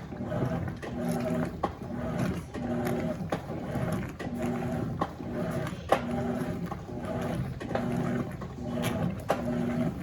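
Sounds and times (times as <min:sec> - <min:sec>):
sharp clicks of agitator reversing: 0:00.0 - 0:10.0
washing machine agitating: 0:00.0 - 0:10.0.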